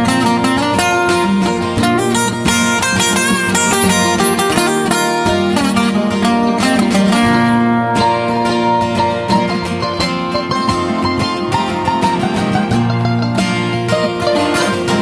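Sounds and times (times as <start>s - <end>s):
acoustic guitars strumming: 0.0s - 15.0s
mandolin: 0.0s - 15.0s.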